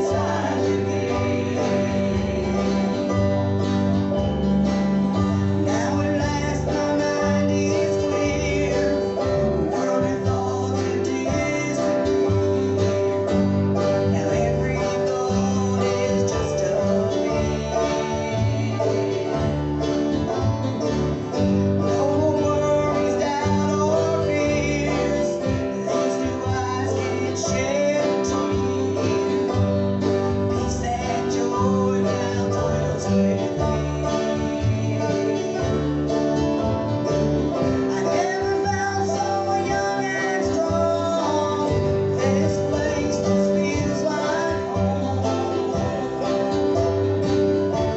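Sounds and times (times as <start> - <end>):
bluegrass band playing: 0.0 - 47.9.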